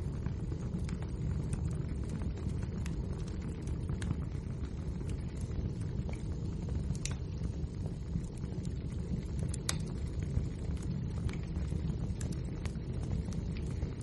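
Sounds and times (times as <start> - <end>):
fire crackling and popping: 0.0 - 14.0
fire rumbling: 0.0 - 14.0.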